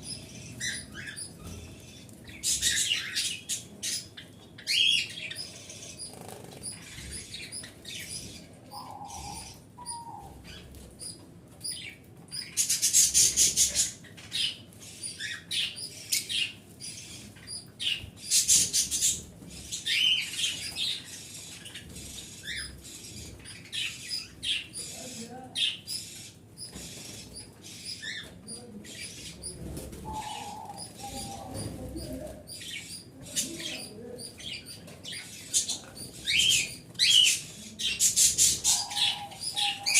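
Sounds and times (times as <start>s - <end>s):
birds chattering rapidly: 0.0s - 39.9s
low bird calls: 0.0s - 39.9s
small birds chirping: 0.0s - 39.9s.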